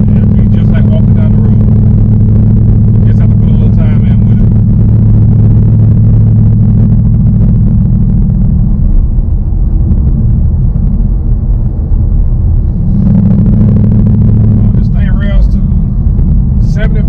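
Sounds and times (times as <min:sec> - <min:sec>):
car engine and exhaust running: 0:00.0 - 0:17.0.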